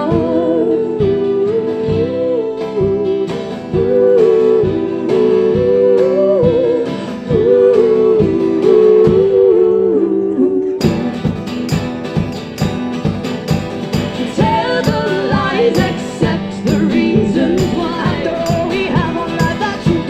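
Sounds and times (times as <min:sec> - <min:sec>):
acoustic guitar strumming chords: 0:00.0 - 0:20.0
guitar melody line: 0:00.0 - 0:20.0.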